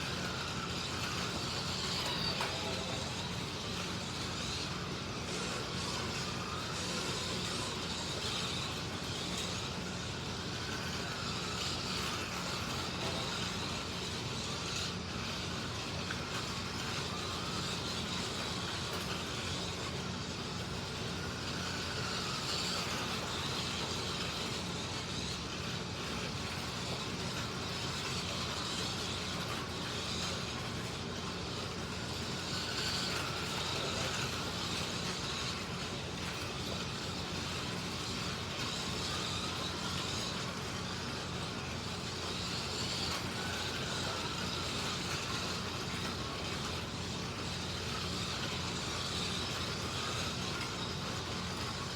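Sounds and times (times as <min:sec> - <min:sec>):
slot car motors whining: 0:00.0 - 0:51.9.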